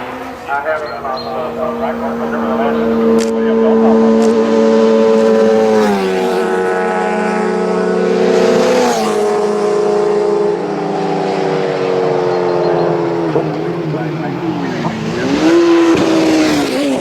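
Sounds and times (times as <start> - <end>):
motorcycle engines passing at high revs: 0.0 - 17.0.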